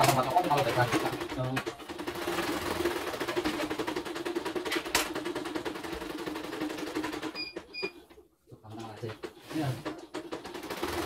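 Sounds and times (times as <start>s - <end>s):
embroidery machine stitching: 0.0s - 11.0s.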